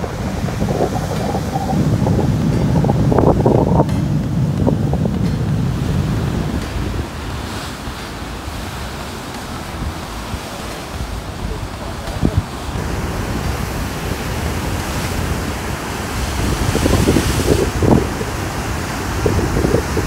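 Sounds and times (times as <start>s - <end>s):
waves breaking against rocks: 0.0s - 20.0s
wind buffeting microphone: 0.0s - 20.0s.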